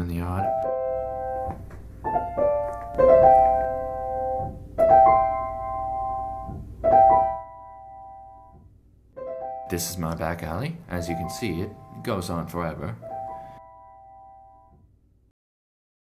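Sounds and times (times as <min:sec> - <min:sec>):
piano music: 0:00.0 - 0:14.8.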